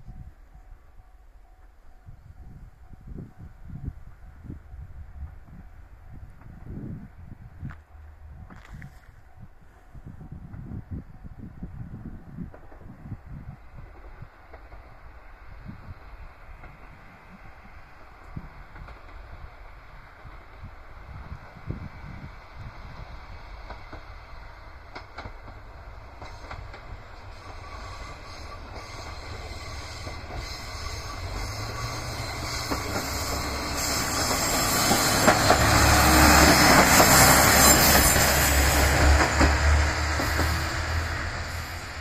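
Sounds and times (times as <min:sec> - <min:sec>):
railcar engine hum: 0:00.0 - 0:42.0
railcar wheels: 0:00.0 - 0:42.0.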